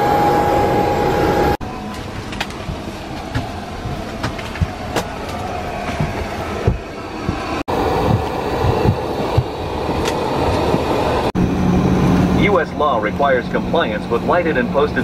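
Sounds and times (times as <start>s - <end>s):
cabin hum: 0.0s - 12.2s
aircraft engine whine: 0.0s - 15.0s.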